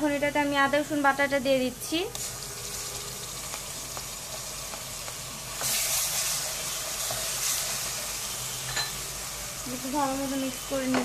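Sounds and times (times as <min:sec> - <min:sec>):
onions frying in hot oil: 0:00.0 - 0:11.0.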